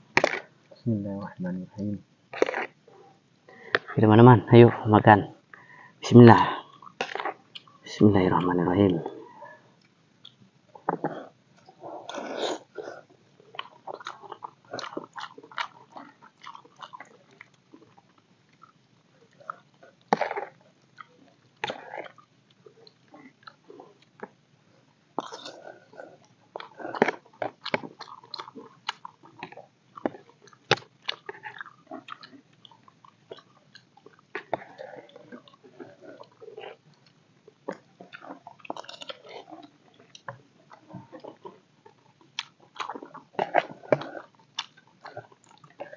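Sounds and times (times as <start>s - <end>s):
people chewing and slurping: 0.0s - 4.1s, 5.6s - 45.9s.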